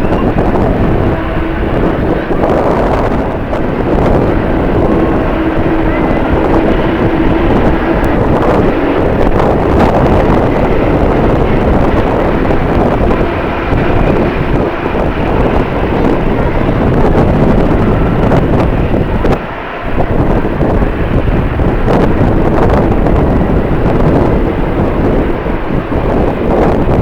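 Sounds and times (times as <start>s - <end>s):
jet engines running: 0.0s - 27.0s
wind buffeting microphone: 0.0s - 27.0s.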